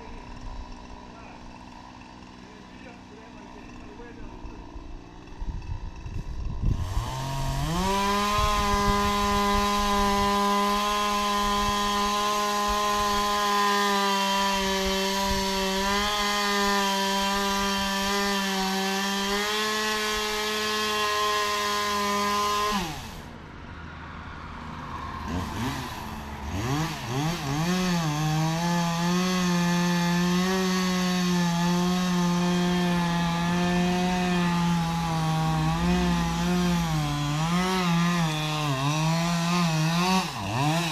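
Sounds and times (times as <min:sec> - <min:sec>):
chainsaw cutting wood: 0:00.0 - 0:23.4, 0:25.0 - 0:40.9.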